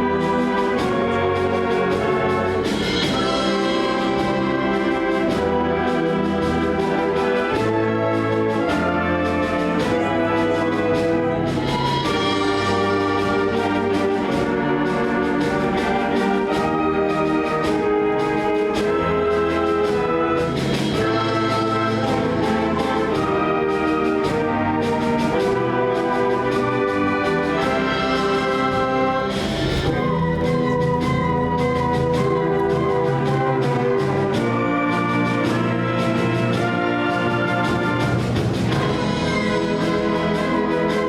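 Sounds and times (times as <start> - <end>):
concert band playing: 0.0 - 41.0.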